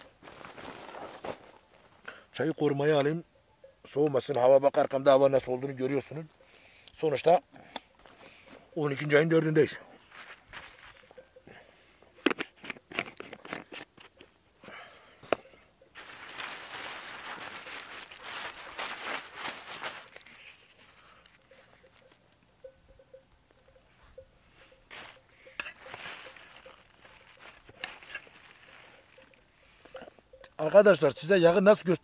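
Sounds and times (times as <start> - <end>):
rustling and crinkling handling noise: 0.0 - 3.2, 7.0 - 14.4, 15.2 - 31.9.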